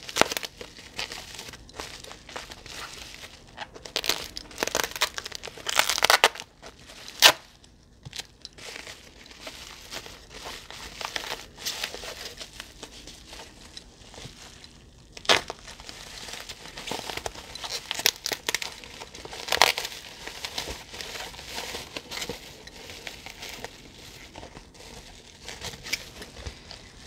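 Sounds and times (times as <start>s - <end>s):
bubble wrap crinkling: 0.0s - 27.0s.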